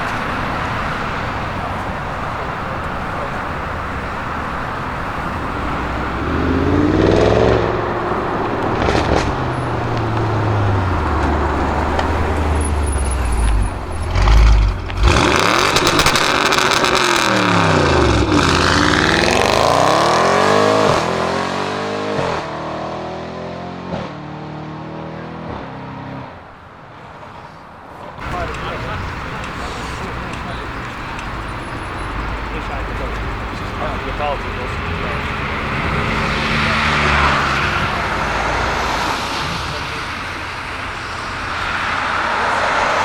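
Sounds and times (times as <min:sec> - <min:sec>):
exhaust crackling: 0:00.0 - 0:21.1, 0:28.2 - 0:43.0
car engine revving and accelerating: 0:02.7 - 0:26.3, 0:28.2 - 0:43.0.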